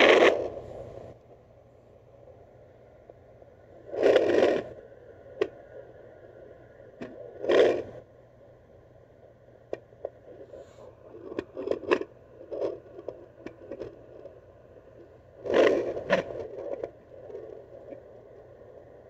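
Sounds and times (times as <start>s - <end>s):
doppler probe scraping and crackling: 0.0s - 1.2s, 3.7s - 8.1s, 9.2s - 19.0s.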